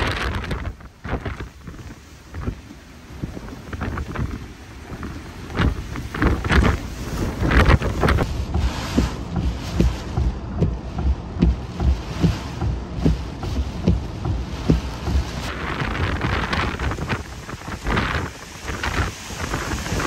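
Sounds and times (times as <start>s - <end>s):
wind gusting against microphone: 0.0s - 20.0s.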